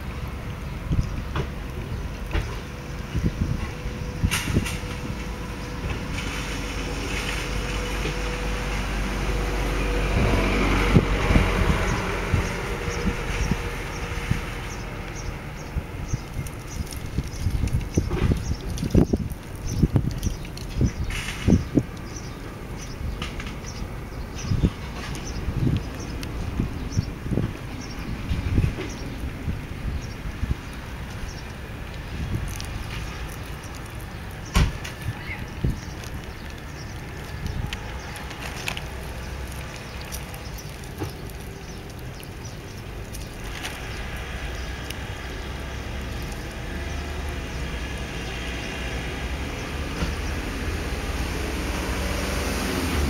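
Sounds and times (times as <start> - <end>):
wind rumble on microphone: 0.0 - 53.0.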